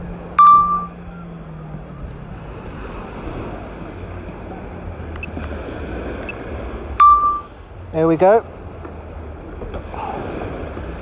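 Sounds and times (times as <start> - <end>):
surf: 0.0 - 11.0.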